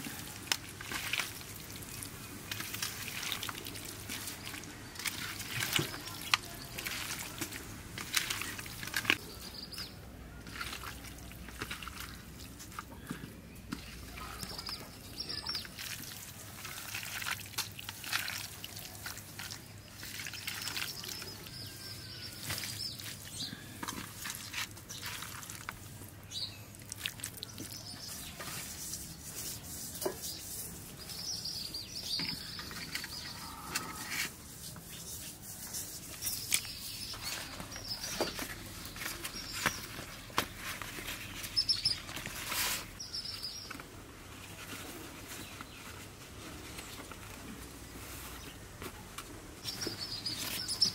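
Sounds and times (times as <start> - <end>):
small birds chirping: 0.9 - 50.9.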